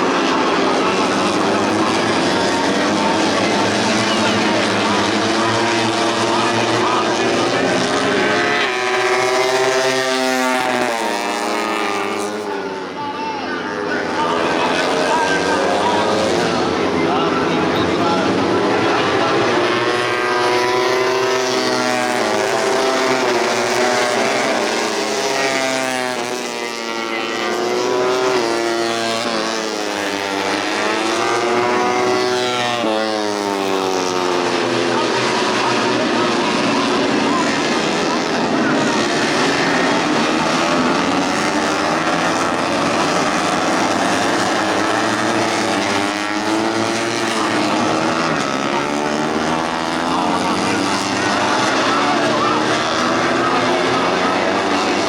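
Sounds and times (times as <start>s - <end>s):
racing motorcycle engines revving: 0.0s - 55.0s.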